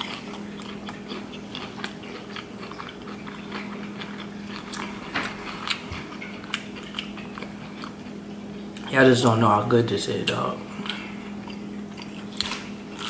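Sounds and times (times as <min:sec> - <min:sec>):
chewing with wet mouth clicks: 0:00.0 - 0:08.9, 0:10.8 - 0:13.0.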